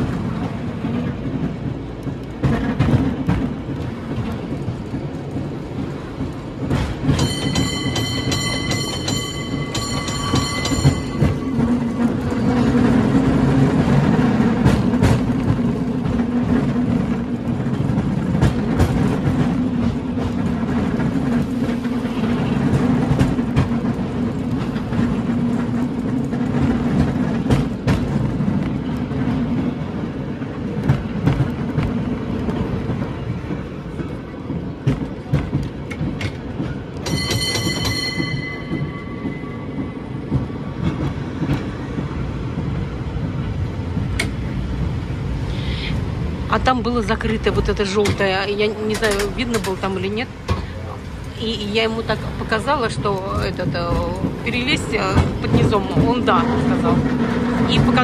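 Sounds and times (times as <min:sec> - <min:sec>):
cable car rumbling on track: 0:00.0 - 0:58.0.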